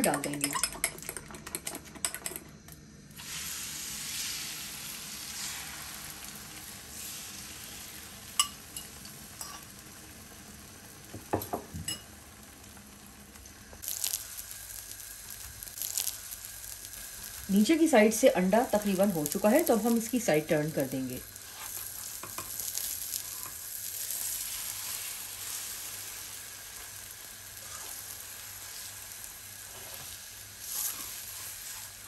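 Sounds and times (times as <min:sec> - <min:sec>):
eggs sizzling on a griddle: 0:00.1 - 0:32.0.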